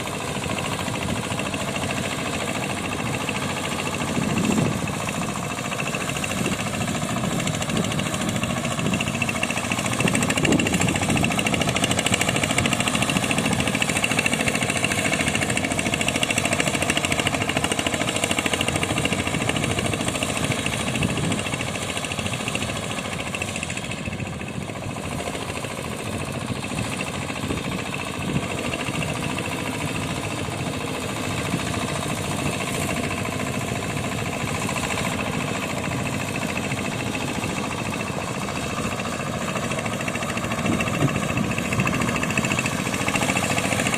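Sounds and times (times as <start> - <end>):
boat engine running: 0.0 - 43.9.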